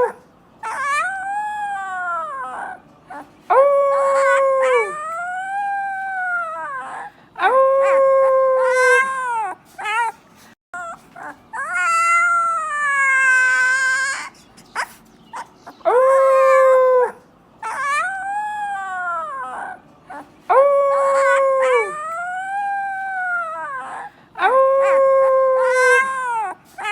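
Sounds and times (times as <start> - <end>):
puppy howling: 0.0 - 10.2, 10.8 - 26.9.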